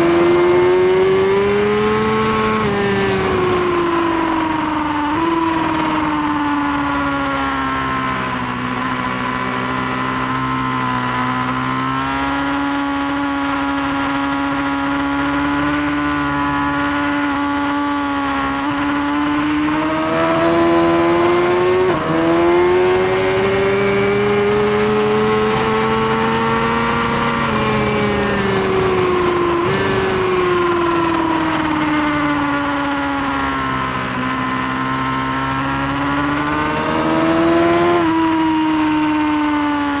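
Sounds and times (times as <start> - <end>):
motorcycle engine running hard: 0.0 - 40.0.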